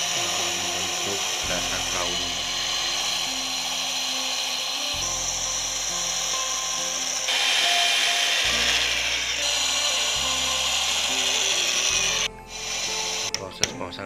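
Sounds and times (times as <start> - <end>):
electric drill boring into wood: 0.0 - 13.8.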